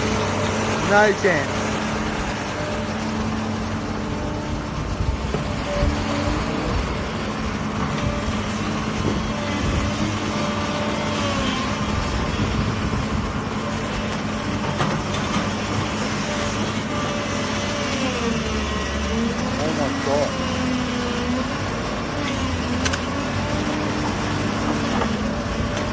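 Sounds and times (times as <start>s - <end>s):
excavator diesel engine running: 0.0s - 25.9s.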